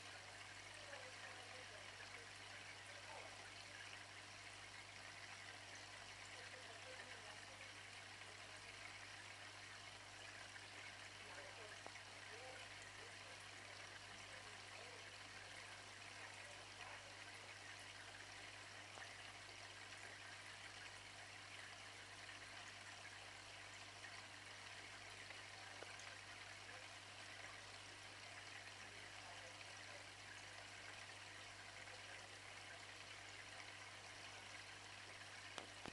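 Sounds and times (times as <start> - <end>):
aquarium water trickling: 0.0 - 35.9
low steady hum: 0.0 - 35.9.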